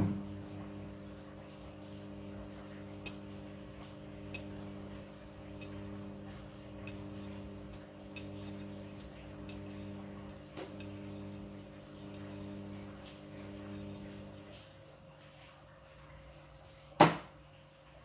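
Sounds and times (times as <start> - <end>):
washing machine hum: 0.0 - 18.0.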